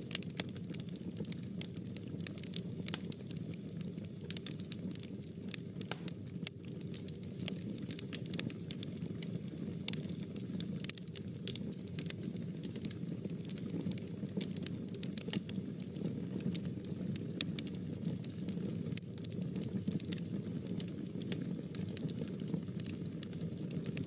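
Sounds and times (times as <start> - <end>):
fire crackling in fireplace: 0.0 - 24.0.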